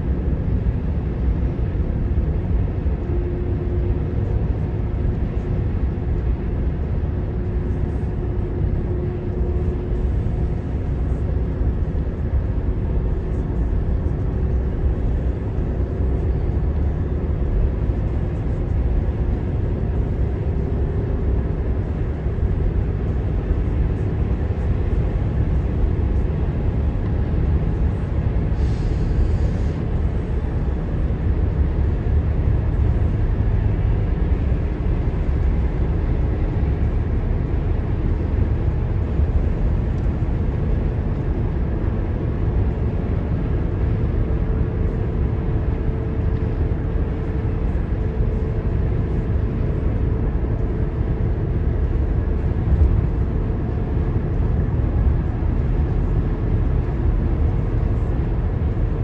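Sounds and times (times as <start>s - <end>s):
car driving at highway speed: 0.0s - 59.0s.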